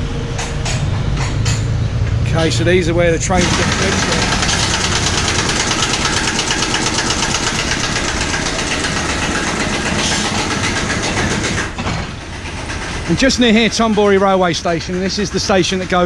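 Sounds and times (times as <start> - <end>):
large engine throbbing: 0.0 - 16.0.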